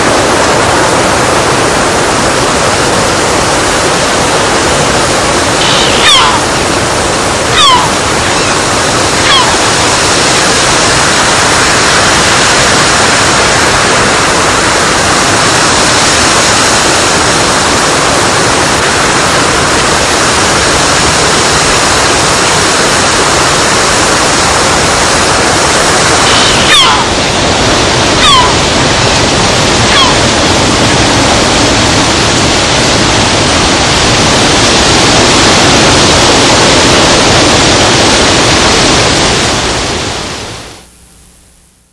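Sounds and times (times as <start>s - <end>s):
loud rushing noise: 0.0s - 40.9s.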